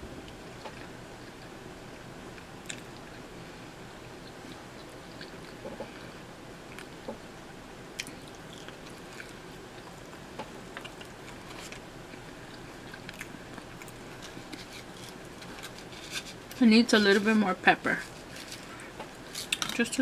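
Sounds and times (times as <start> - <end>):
person chewing pizza: 0.3 - 7.1, 7.9 - 16.6, 18.1 - 19.7.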